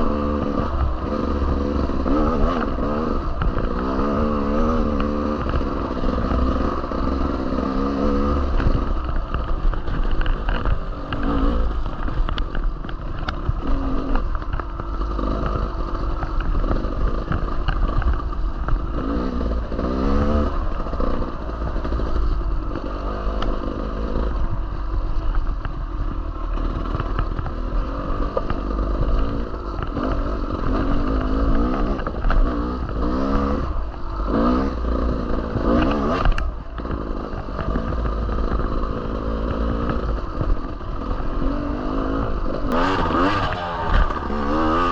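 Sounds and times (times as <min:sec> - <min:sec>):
dirt bike engine revving: 0:00.0 - 0:25.3, 0:26.1 - 0:44.9
clatter: 0:00.0 - 0:44.9.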